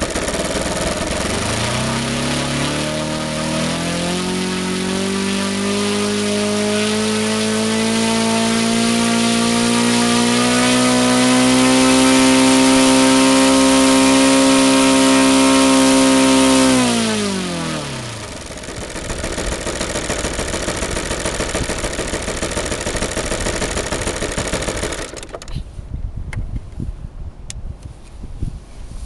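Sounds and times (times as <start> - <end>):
model aircraft engine: 0.0 - 25.7.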